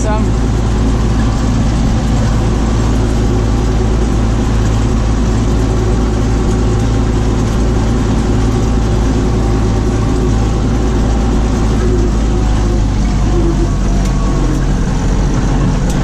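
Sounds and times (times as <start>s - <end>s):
tractor engine running steadily: 0.0s - 16.0s.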